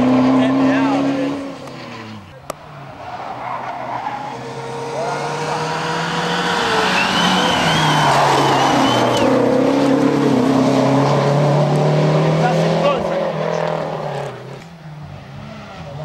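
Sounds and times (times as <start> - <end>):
rally car engine passing by: 0.0 - 16.0.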